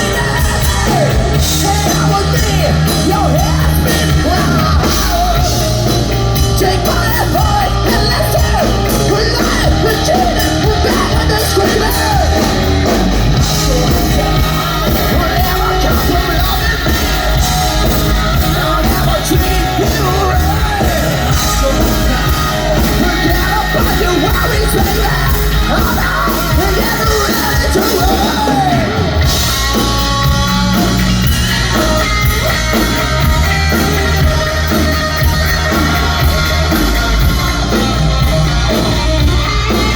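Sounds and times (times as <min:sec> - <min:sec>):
hard rock band playing: 0:00.0 - 0:39.9
person singing: 0:00.0 - 0:39.9.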